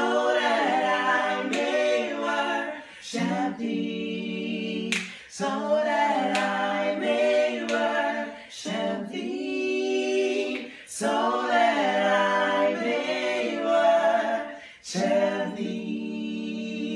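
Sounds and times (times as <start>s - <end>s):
men singing in harmony: 0.0s - 16.9s.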